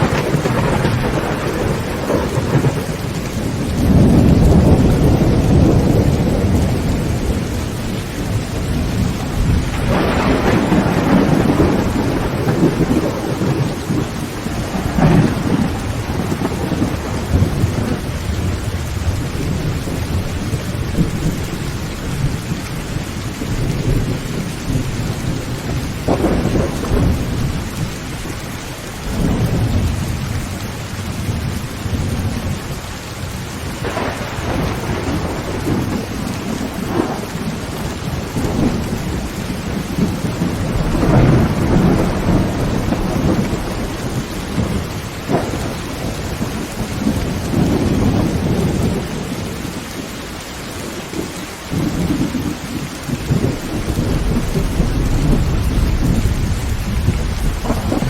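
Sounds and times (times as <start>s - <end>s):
heavy rain on a tin roof: 0.0s - 58.0s
thunder rumbling: 0.0s - 58.0s.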